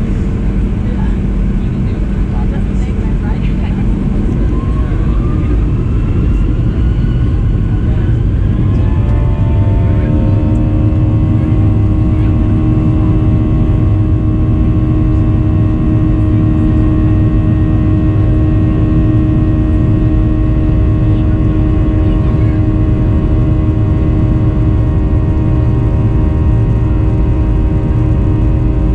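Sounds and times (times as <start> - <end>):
jet engines whining: 0.0 - 28.9
loud cabin rumble: 0.0 - 28.9.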